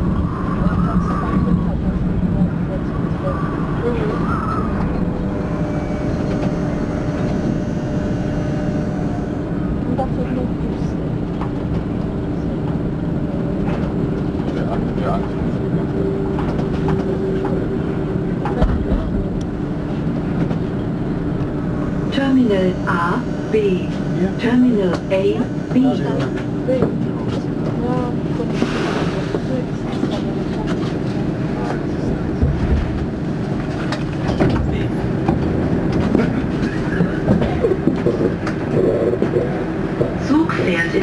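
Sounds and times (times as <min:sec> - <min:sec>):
monorail car rumble: 0:00.0 - 0:41.0.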